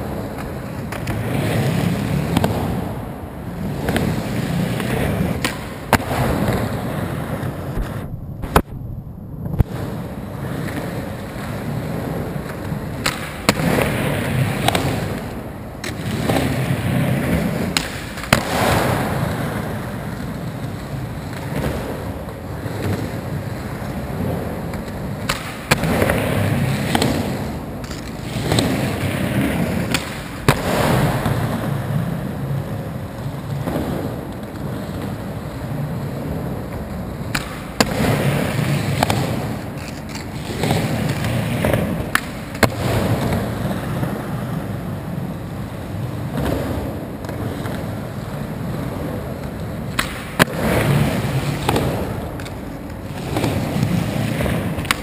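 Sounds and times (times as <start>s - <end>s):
skateboard wheels rolling on concrete: 0.0s - 55.0s
skateboard clacking on concrete: 9.5s - 45.1s, 45.8s - 55.0s.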